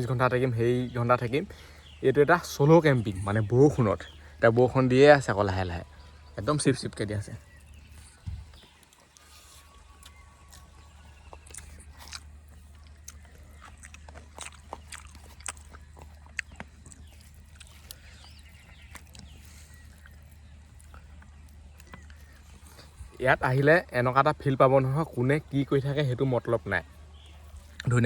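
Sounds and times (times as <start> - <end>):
quiet chewing: 0.0 - 28.0.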